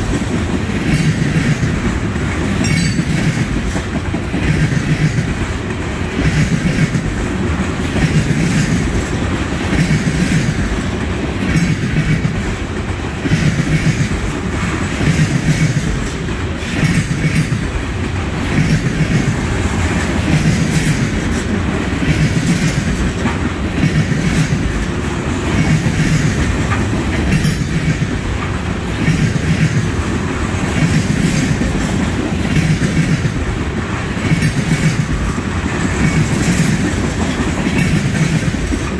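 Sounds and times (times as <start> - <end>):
clickety-clack over rail joints: 0.0 - 38.9
train wheels rumbling on rail: 0.0 - 38.9.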